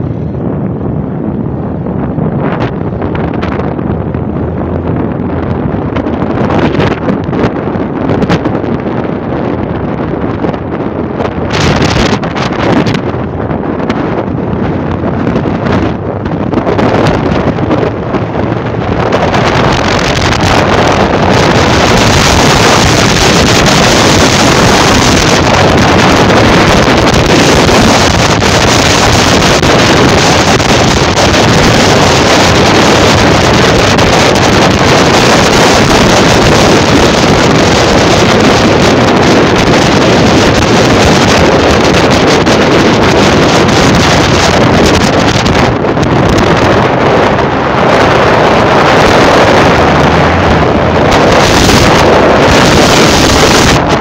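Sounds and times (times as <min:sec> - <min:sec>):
road and engine noise: 0:00.0 - 0:54.0
wind rushing over microphone: 0:00.0 - 0:54.0.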